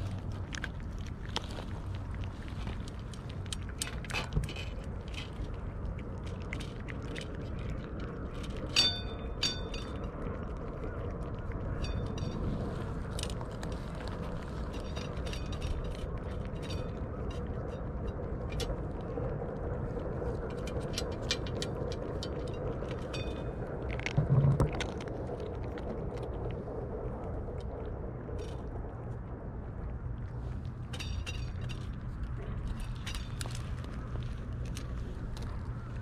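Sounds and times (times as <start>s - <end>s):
cats crunching dry kibble: 0.0s - 36.0s.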